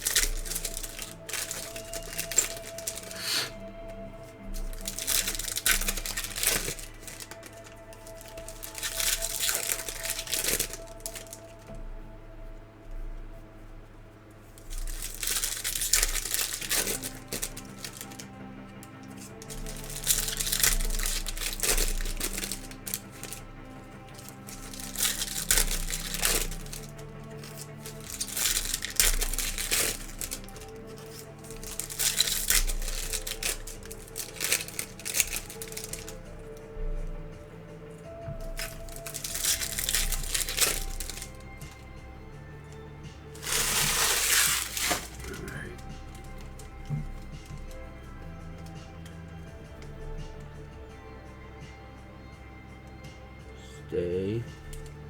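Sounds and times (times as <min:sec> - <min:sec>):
card pack wrappers crinkling: 0:00.0 - 0:12.5, 0:14.1 - 0:50.9, 0:54.6 - 0:55.0
background music: 0:00.0 - 0:55.0.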